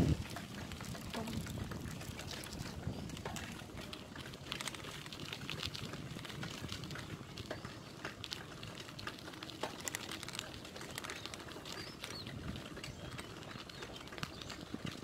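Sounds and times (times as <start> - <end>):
bicycle parts rattling: 0.0 - 15.0
bicycle tyres crackling on wet road: 0.0 - 15.0.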